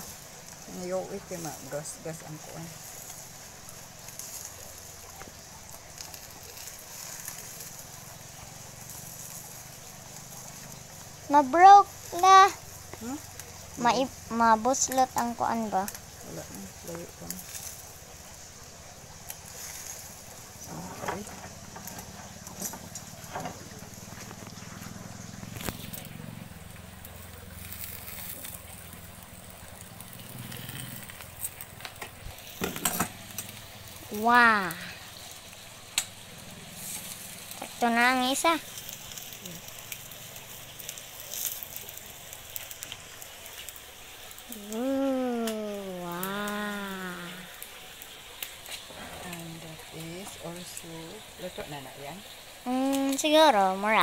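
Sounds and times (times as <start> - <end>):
eggs sizzling in a pan: 0.0 - 54.0.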